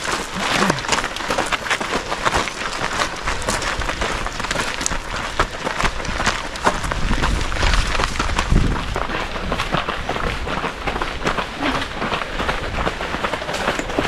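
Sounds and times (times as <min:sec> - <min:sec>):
running footsteps on rough path: 0:00.0 - 0:14.0.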